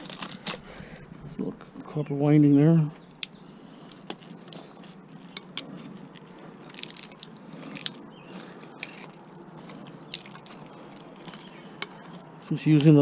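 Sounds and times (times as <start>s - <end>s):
metal scraping crunches: 0.0s - 1.0s, 3.2s - 13.0s.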